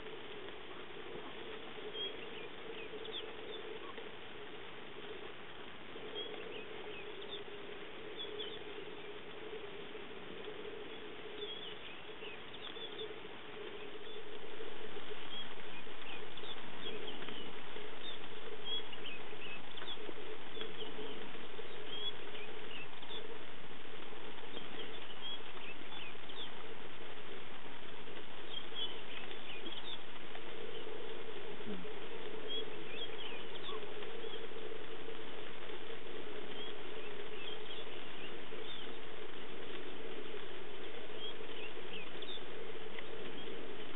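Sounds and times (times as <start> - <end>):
light rain pattering: 0.0 - 43.9
steady low hum: 0.0 - 43.9.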